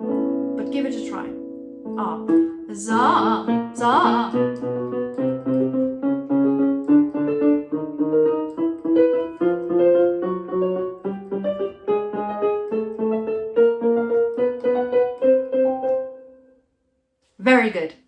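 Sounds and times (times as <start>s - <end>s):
piano chords: 0.0s - 16.6s.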